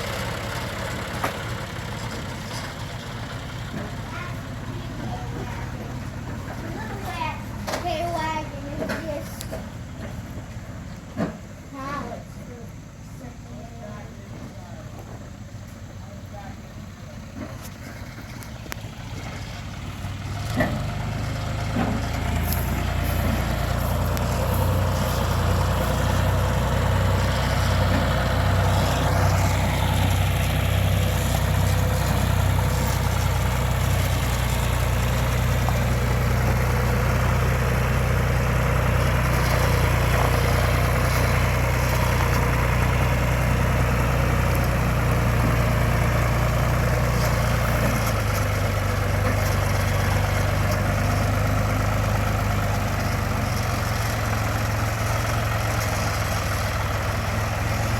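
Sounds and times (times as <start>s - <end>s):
vehicle engine running: 0.0s - 57.9s.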